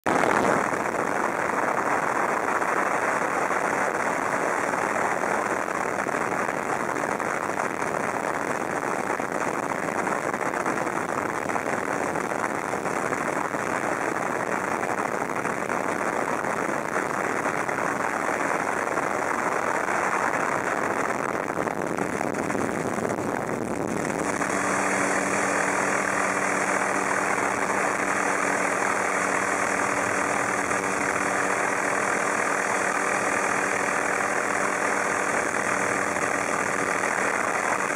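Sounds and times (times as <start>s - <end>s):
helicopter engine and rotors: 0.2s - 8.8s, 9.5s - 37.9s.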